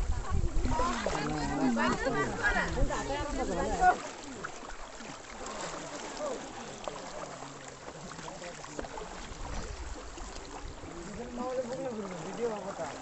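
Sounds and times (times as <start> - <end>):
water sloshing from wading: 0.0 - 13.0.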